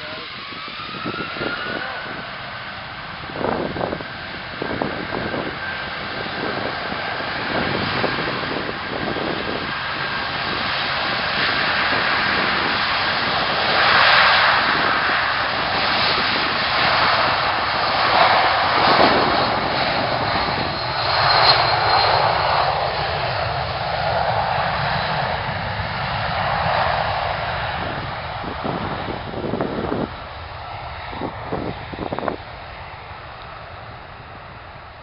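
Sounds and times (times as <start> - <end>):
aircraft engines running: 0.0 - 35.0.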